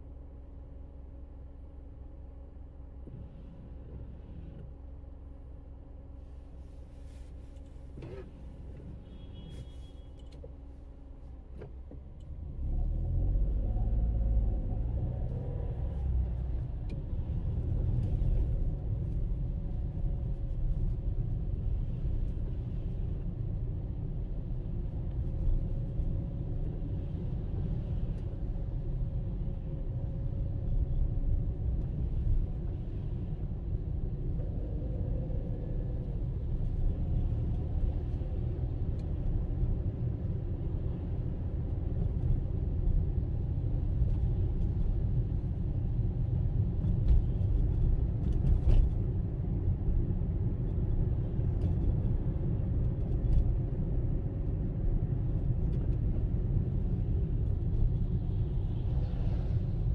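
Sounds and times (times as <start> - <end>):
road noise: 6.8 - 59.9.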